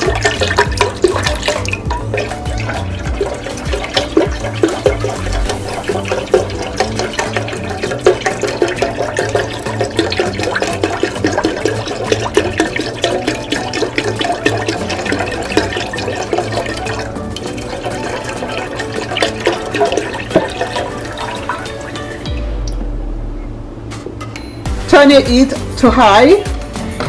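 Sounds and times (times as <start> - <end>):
liquid pouring into a pot: 0.0 - 22.5.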